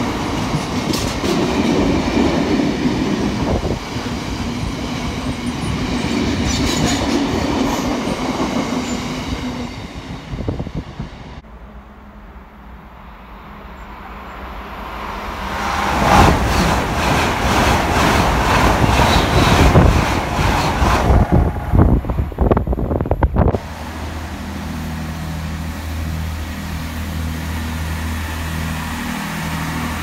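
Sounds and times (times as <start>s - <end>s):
passenger train passing at speed: 0.0s - 30.0s.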